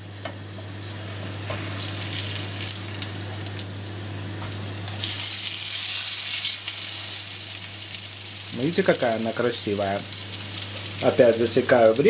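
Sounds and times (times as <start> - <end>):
oil sizzling in a frying pan: 0.2 - 12.0.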